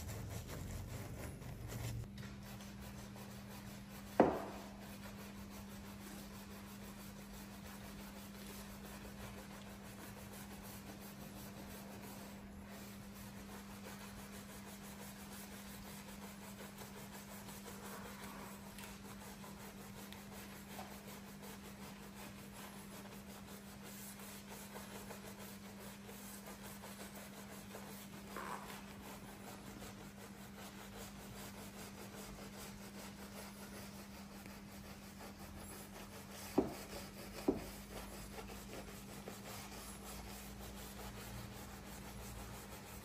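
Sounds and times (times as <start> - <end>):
brush scrubbing car trim: 0.0 - 43.0.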